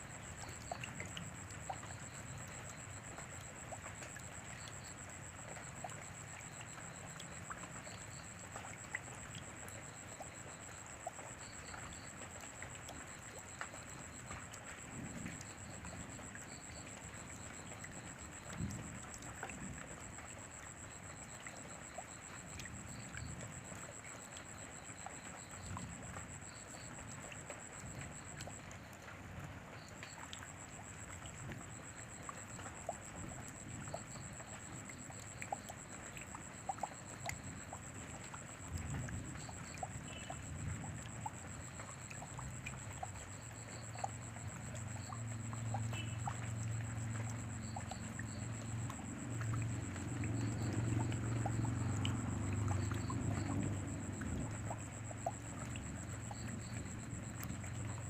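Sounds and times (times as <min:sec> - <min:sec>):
raindrops ticking on surfaces: 0:00.0 - 0:58.0
steady rain falling: 0:00.0 - 0:58.0.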